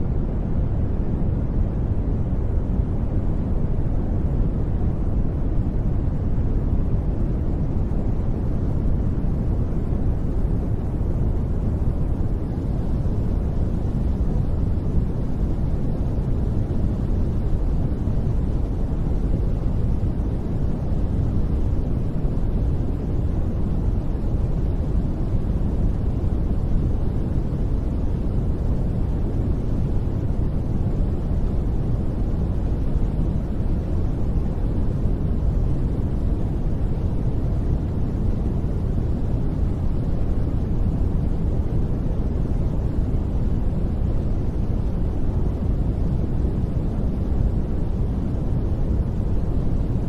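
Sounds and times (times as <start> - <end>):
deep rushing white noise: 0.0 - 50.0.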